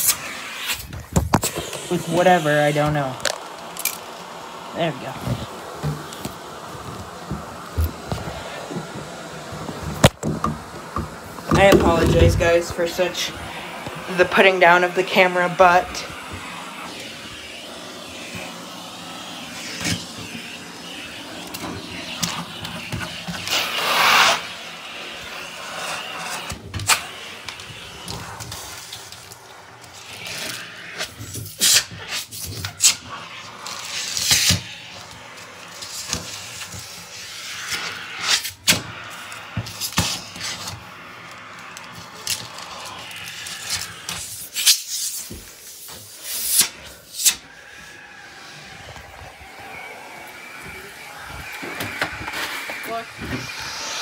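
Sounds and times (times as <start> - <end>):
vacuum suction rushing: 0.0 - 54.0.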